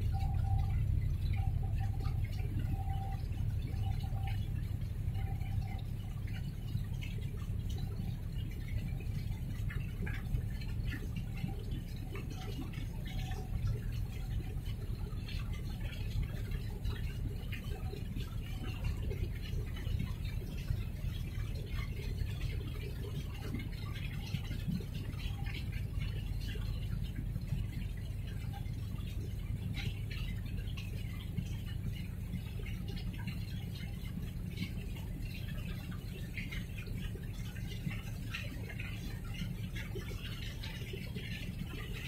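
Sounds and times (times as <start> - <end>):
faint ticks and patter: 0.0 - 42.0
steady low rumble: 0.0 - 42.0.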